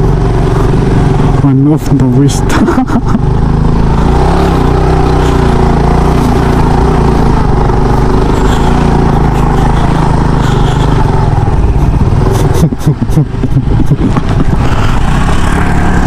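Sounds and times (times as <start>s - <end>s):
small motorcycle engine running: 0.0s - 16.0s
riding wind rush: 2.4s - 16.0s.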